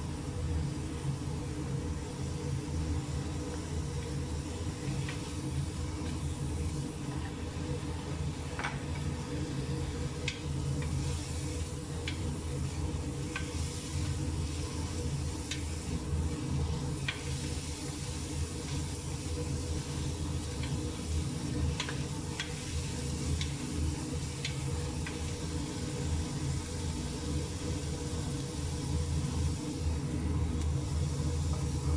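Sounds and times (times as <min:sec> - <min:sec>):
meat and onion sizzling: 0:02.4 - 0:31.9.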